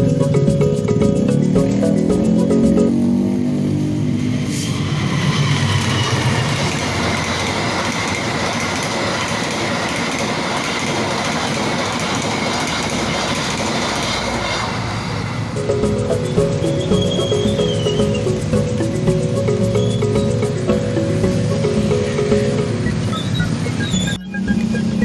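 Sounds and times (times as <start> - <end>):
train wheels rushing on rails: 0.0 - 25.0.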